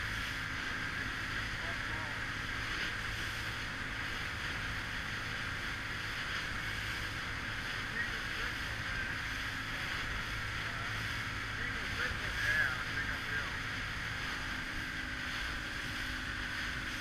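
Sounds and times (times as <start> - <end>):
motorboat engine hum: 0.0 - 17.0
water rushing along hull: 0.0 - 17.0.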